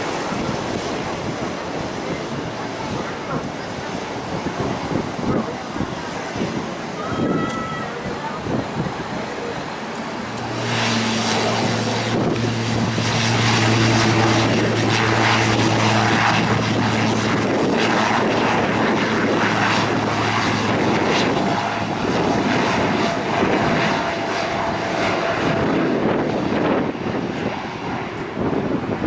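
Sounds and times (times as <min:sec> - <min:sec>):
airplane engines running: 0:00.0 - 0:29.0.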